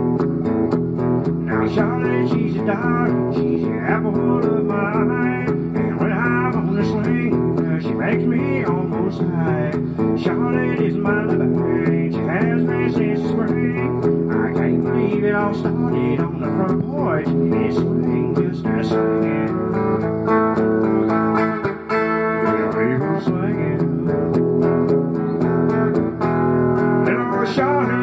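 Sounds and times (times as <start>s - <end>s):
man singing country song: 0.0s - 28.0s
strummed guitar: 0.0s - 28.0s.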